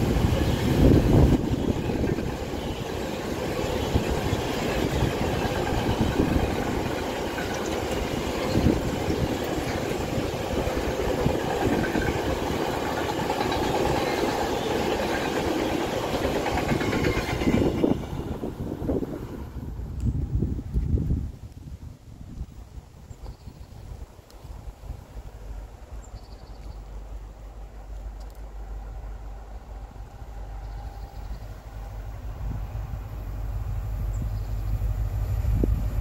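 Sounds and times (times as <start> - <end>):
train wheels on rail: 0.0 - 21.2, 24.3 - 36.0.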